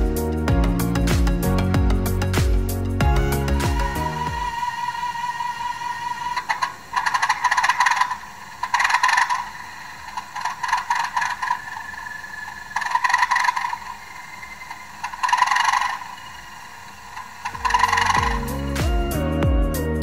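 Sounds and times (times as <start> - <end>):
model locomotive diesel sounds: 3.0 - 20.0.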